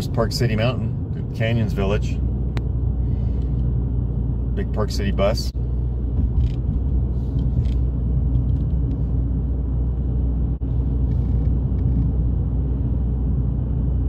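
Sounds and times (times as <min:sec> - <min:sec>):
low road rumble inside vehicle: 0:00.0 - 0:14.0.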